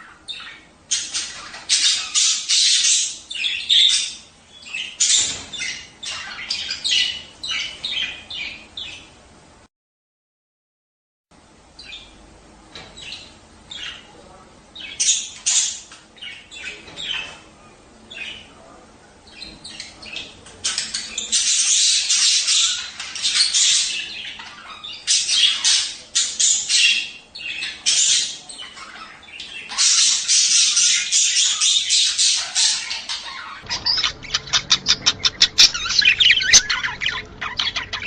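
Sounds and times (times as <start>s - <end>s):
budgerigars chattering: 0.0s - 9.1s, 14.8s - 17.5s, 19.2s - 38.0s.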